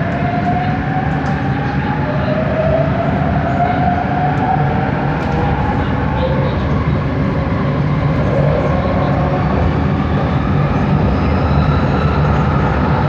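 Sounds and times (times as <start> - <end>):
metro train motor whining: 0.0 - 13.0
train low rumble: 0.0 - 13.0.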